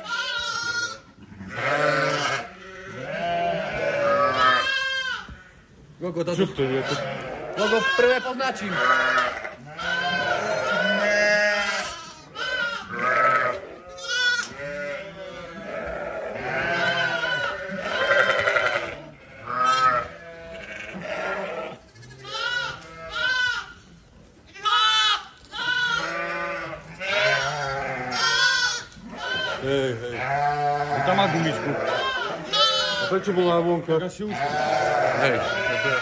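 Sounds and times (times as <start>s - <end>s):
sheep and lambs bleating: 0.0s - 5.7s, 6.3s - 36.0s.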